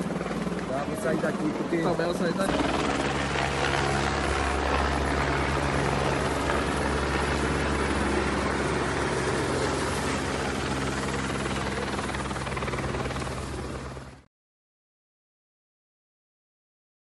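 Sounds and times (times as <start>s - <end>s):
engine drone: 0.0s - 14.3s.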